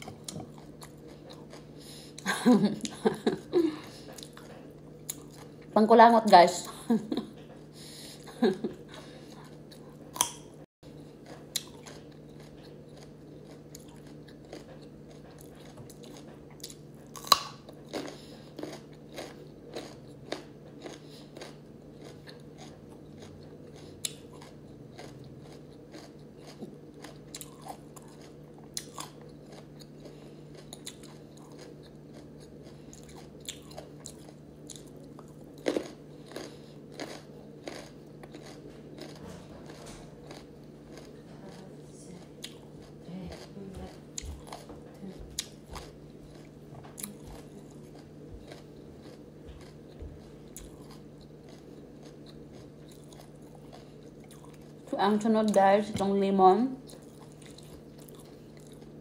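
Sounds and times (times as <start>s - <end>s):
crunchy chewing of raw carrot: 0.0s - 2.2s, 3.7s - 5.7s, 7.6s - 54.9s, 56.8s - 59.0s
low steady hum: 0.0s - 59.0s.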